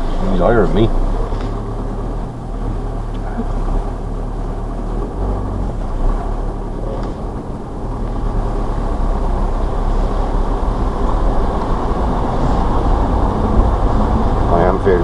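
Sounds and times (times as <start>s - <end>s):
van engine humming: 0.0s - 15.0s
water rushing: 0.0s - 15.0s.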